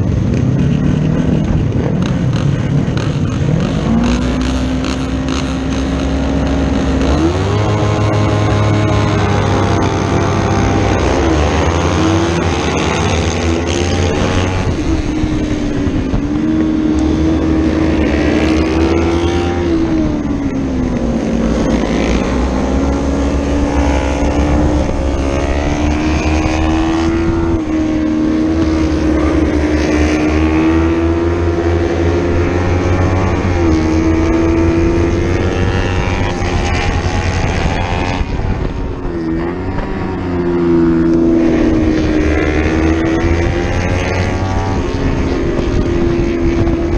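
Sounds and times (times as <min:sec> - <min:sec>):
racing motorcycle engine: 0:00.0 - 0:46.9
rushing wind: 0:00.0 - 0:46.9.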